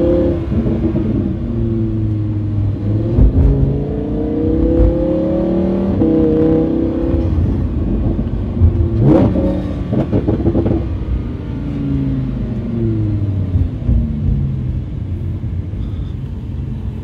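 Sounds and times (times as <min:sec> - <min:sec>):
sports car engine revving: 0:00.0 - 0:14.7.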